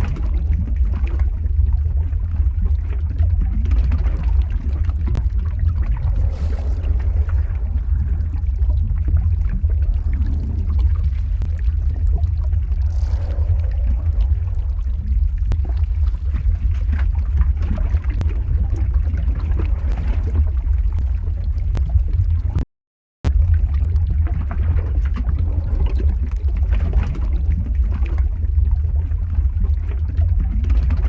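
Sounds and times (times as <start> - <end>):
crackles and pops: 0.0 - 22.6, 23.2 - 31.0
deep steady rumble: 0.0 - 22.6, 23.2 - 31.0.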